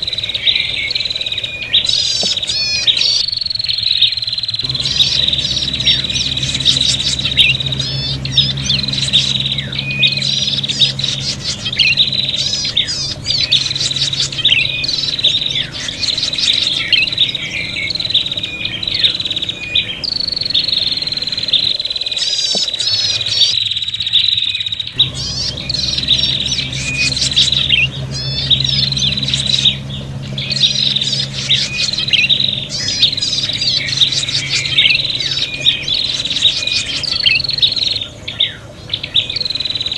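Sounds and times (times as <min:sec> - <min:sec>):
bird chattering calls: 0:00.0 - 0:39.9
steady thin whine: 0:04.6 - 0:23.5, 0:24.7 - 0:39.9.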